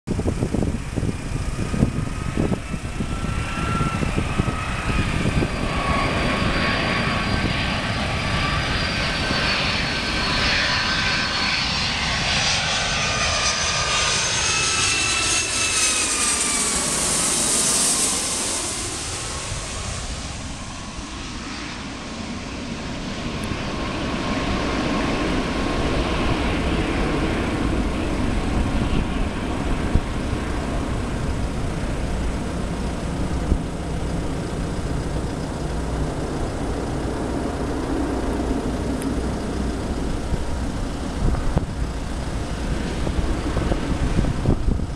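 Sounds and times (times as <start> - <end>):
jet engines whining and rumbling: 0.1 - 44.9.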